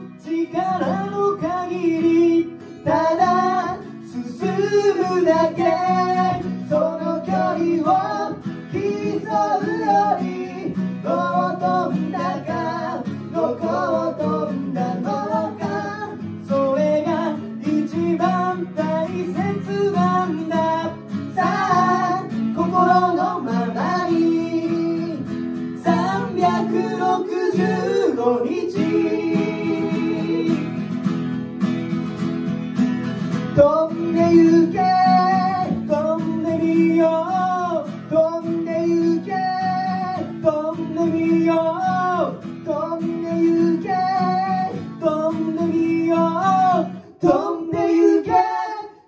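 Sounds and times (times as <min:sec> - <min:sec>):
men singing pop ballad: 0:00.0 - 0:30.8, 0:33.6 - 0:49.0
acoustic guitars strummed: 0:00.0 - 0:49.0.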